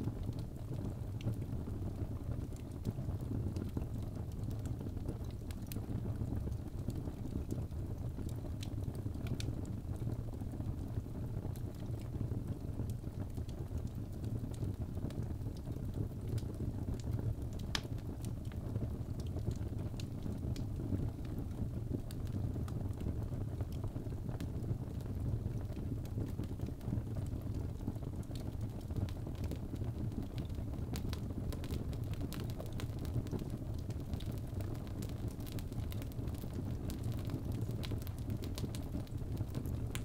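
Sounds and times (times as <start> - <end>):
fire burning with crackles: 0.0 - 40.0.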